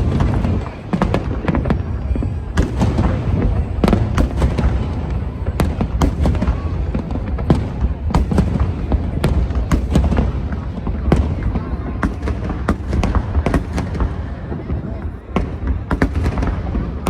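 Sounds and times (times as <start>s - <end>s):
fireworks bangs: 0.0s - 17.0s
low rumble of fireworks display: 0.0s - 17.0s.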